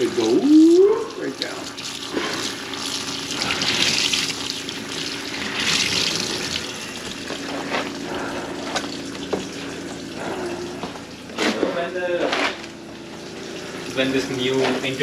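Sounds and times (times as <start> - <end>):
faucet water running into sink: 0.0 - 11.7, 12.9 - 15.0.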